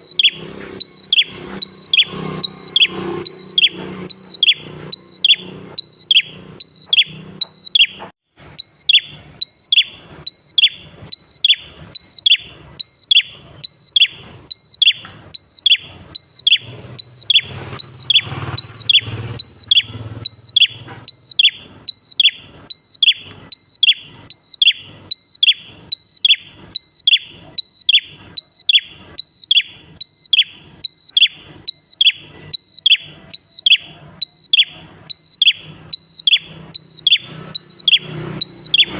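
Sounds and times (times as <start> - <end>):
prinia calling: 0.0 - 38.9.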